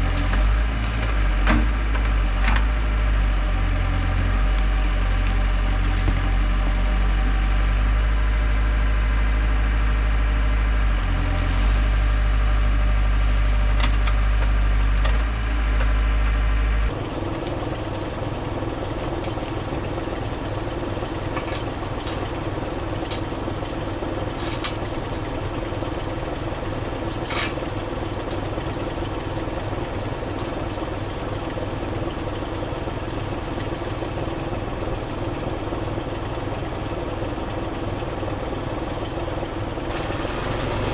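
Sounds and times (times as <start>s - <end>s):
heavy equipment engine running: 0.0s - 40.9s.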